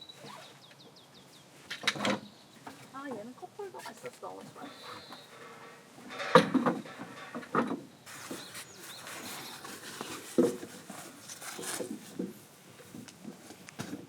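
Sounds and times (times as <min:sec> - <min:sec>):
rustling: 0:02.6 - 0:14.0.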